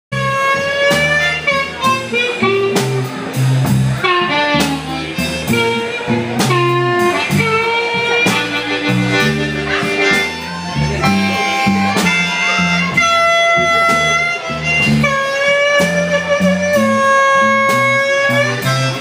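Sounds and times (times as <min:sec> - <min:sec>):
blues band playing: 0:00.1 - 0:19.0
harmonica bending notes: 0:00.1 - 0:19.0.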